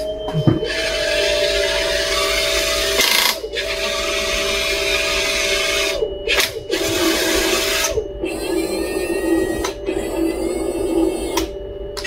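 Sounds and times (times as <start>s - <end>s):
turbine engine sound from speaker: 0.0s - 12.0s
turret motor whirring: 0.0s - 12.0s.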